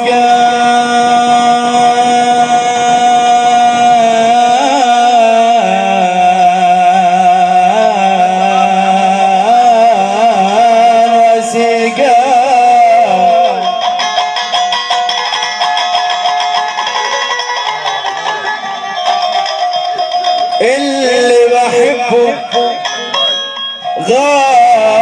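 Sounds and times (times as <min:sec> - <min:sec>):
ornamented instrumental melody: 0:00.0 - 0:25.0
plucked string notes: 0:00.0 - 0:25.0.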